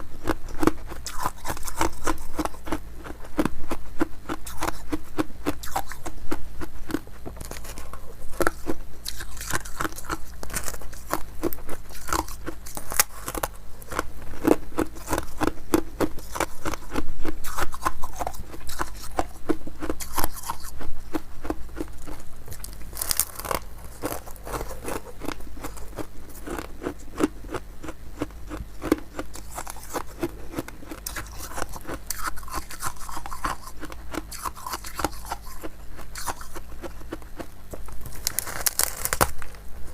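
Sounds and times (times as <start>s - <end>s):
ice crunching between teeth: 0.2s - 39.6s.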